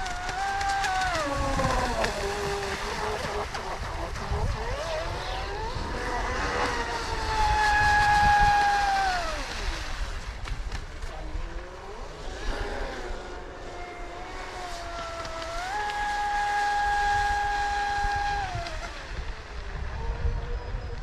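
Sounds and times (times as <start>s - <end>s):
electric motor boat whining: 0.0s - 21.0s.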